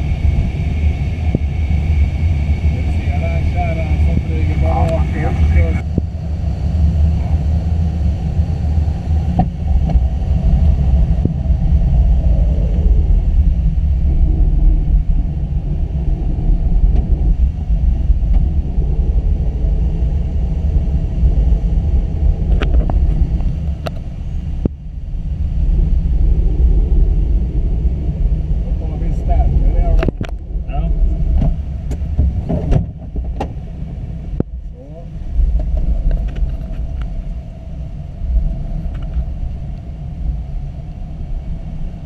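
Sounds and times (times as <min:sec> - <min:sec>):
air rushing over glider canopy: 0:00.0 - 0:42.0.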